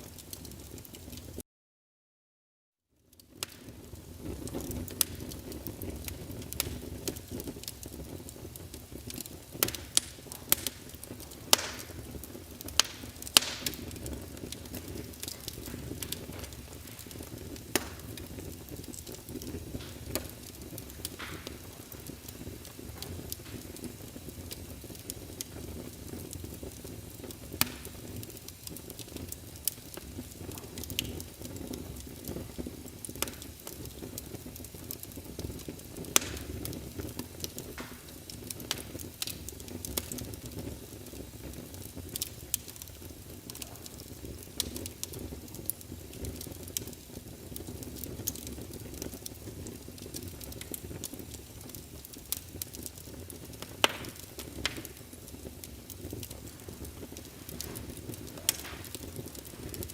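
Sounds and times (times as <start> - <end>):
wood fire crackling: 0.0 - 1.4, 3.0 - 59.9
sharp pops of burning wood: 3.1 - 59.9.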